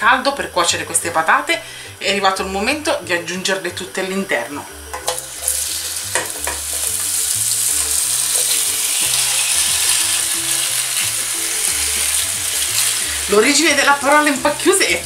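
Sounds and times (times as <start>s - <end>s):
potato slices sizzling in oil: 0.0s - 15.0s.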